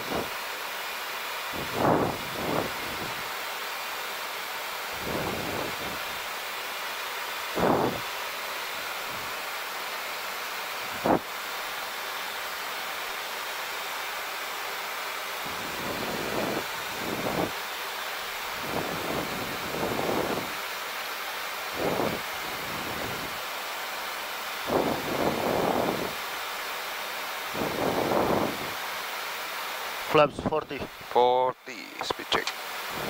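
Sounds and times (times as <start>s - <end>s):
rushing airflow in cockpit: 0.0s - 31.2s, 32.0s - 33.0s.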